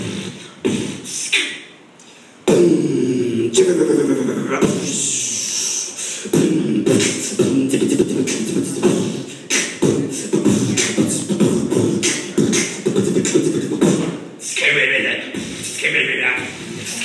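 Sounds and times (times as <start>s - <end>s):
long vocal hiss: 0.0s - 13.8s
beatboxing: 0.0s - 17.0s.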